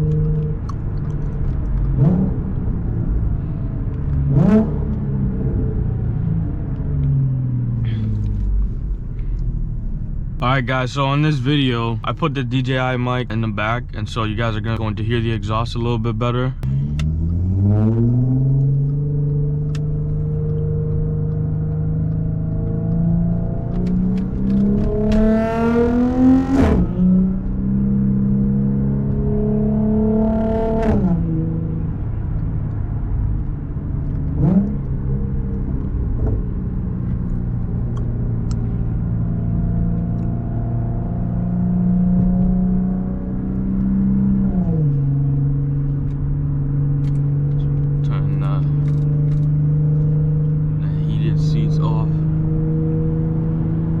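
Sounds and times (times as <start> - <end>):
car engine and exhaust while driving: 0.0 - 54.0.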